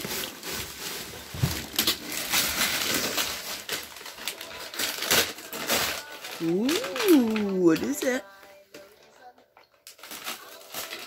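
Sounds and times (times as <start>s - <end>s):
wrapping paper crinkling and tearing: 0.0s - 8.9s, 9.8s - 11.0s.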